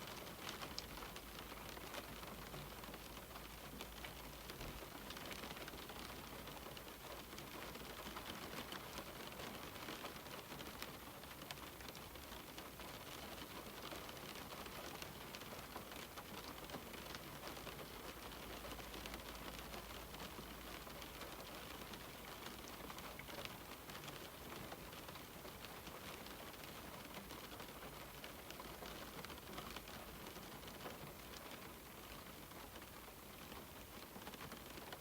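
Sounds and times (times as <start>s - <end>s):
rain on a window: 0.0s - 35.0s.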